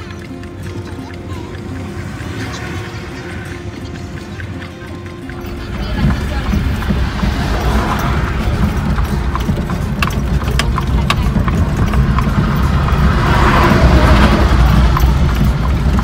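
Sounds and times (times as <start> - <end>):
buggy wheels rumbling: 0.0 - 16.0
hooves clip-clopping on asphalt: 0.0 - 16.0.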